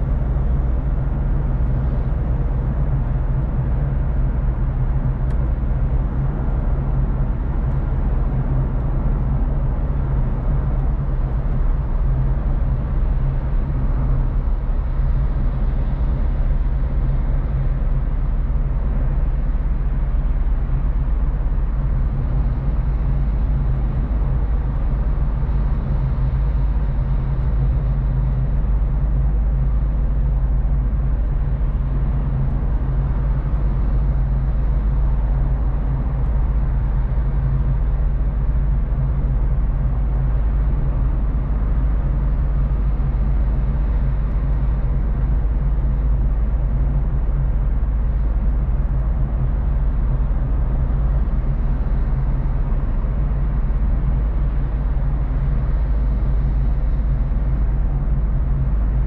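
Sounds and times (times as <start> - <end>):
car engine hum: 0.0 - 59.0.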